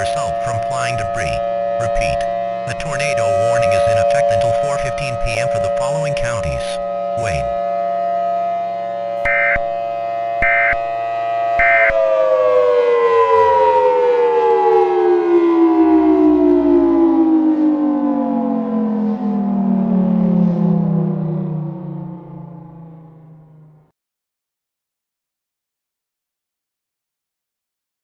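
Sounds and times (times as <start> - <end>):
tornado warning siren: 0.0 - 23.9.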